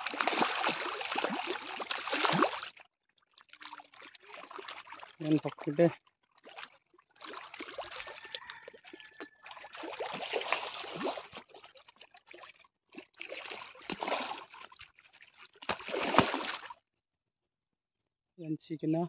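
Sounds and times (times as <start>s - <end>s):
pond water splashing: 0.0s - 16.9s.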